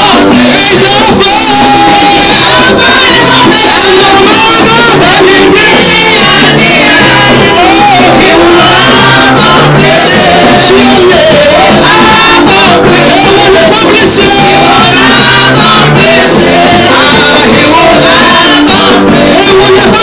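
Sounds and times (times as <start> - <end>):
drums and hand percussion: 0.0 - 20.0
group singing gospel: 0.0 - 20.0.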